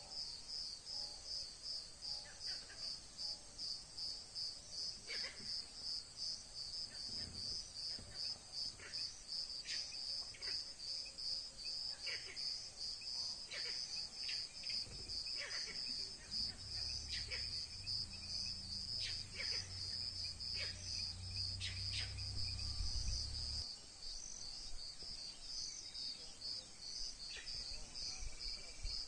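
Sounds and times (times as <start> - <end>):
insects trilling: 0.1 - 29.0.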